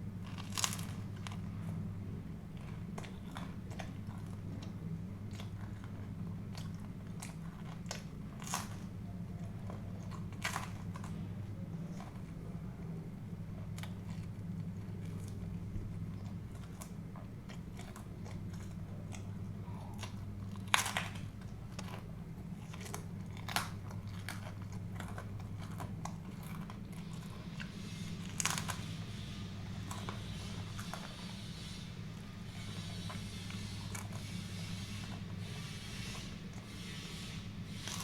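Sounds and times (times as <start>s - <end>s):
chewing and crunching food: 0.0s - 38.0s
steady low hum: 0.0s - 38.0s.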